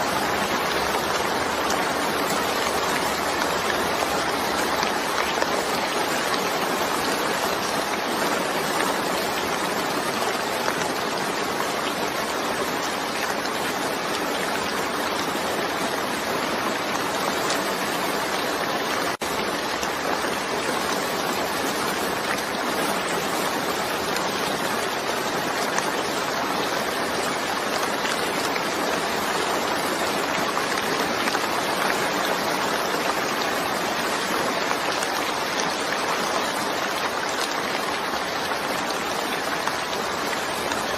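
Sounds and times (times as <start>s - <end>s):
rain hissing: 0.0s - 40.9s.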